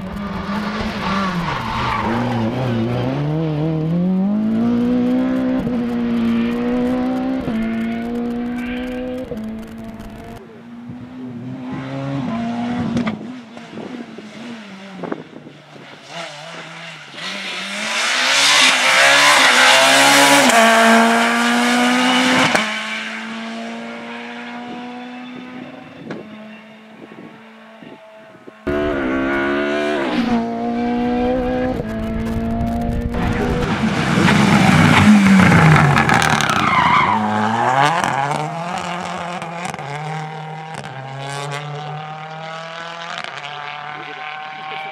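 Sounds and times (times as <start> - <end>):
rally car engine revving: 0.0 - 26.6, 28.6 - 44.9.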